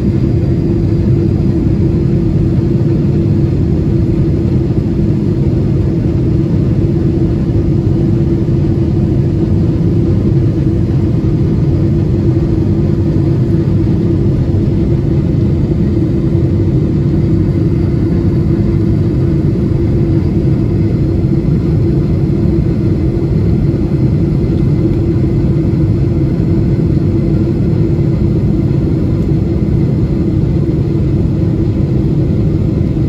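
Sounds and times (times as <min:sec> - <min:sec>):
constant droning tone: 0:00.0 - 0:33.0
jet engines rumbling: 0:00.0 - 0:33.0.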